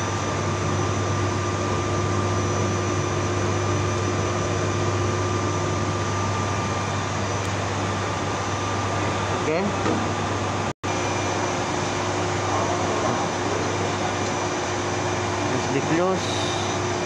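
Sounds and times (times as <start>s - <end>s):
machine hum and whir: 0.0s - 17.0s.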